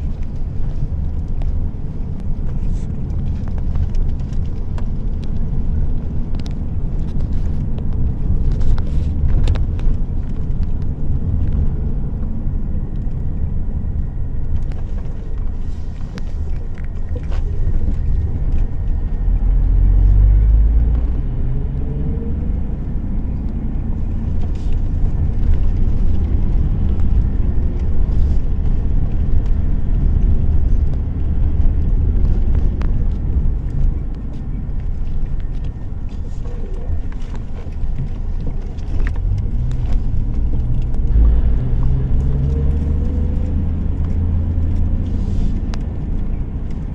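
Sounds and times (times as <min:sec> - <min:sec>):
car engine and tyres rumbling: 0:00.0 - 0:46.9.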